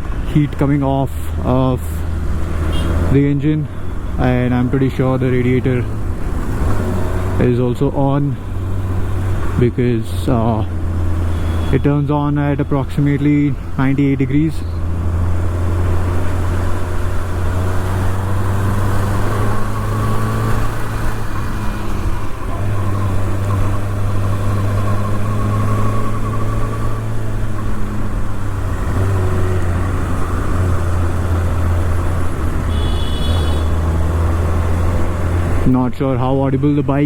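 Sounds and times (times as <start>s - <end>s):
motorcycle engine cruising: 0.0s - 37.0s
wind and road noise: 0.0s - 37.0s.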